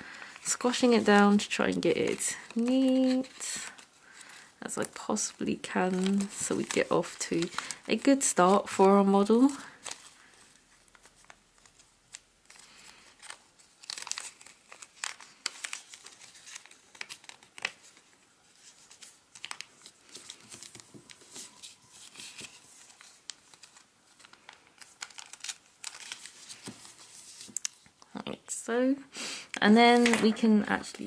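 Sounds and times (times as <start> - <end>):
paper crinkling and rustling: 0.2 - 28.0, 29.7 - 31.0.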